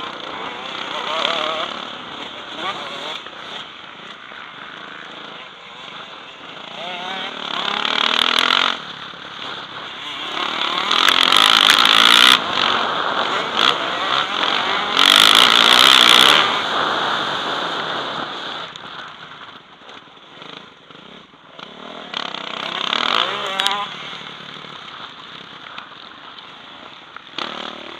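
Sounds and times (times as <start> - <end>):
motocross bike engine revving: 0.0 - 18.8, 20.3 - 25.6, 26.6 - 27.9.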